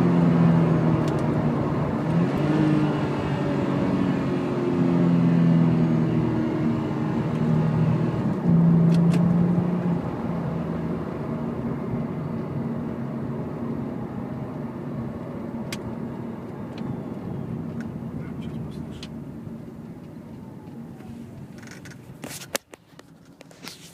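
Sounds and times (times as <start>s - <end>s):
car engine running: 0.0s - 23.9s.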